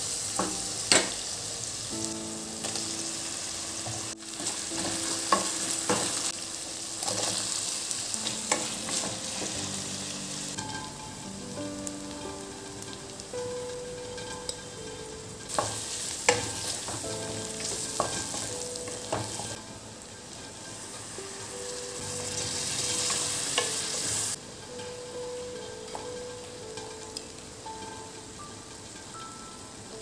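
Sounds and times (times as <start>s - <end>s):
potatoes sizzling in a pan: 0.0s - 30.0s.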